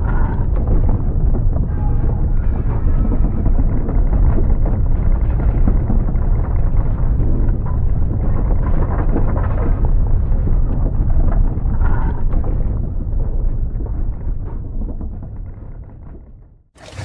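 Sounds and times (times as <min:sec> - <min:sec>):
earthquake rumble: 0:00.0 - 0:17.0.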